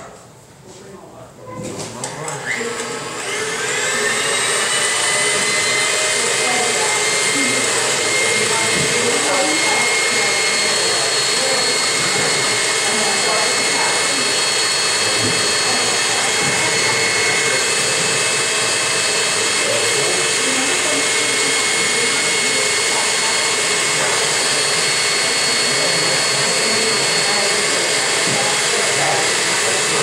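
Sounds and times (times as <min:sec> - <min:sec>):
stand mixer motor running: 0:01.6 - 0:30.0.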